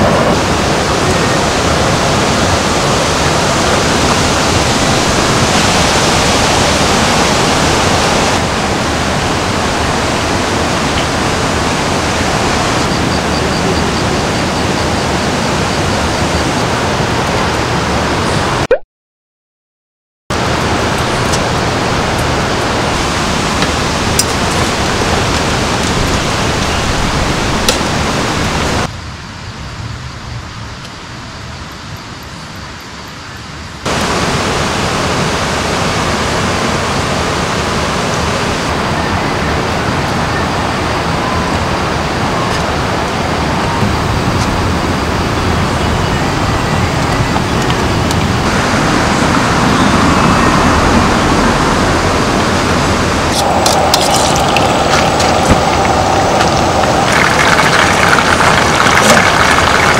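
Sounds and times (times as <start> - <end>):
running water rushing: 0.0 - 18.7, 20.3 - 28.9, 33.8 - 59.9.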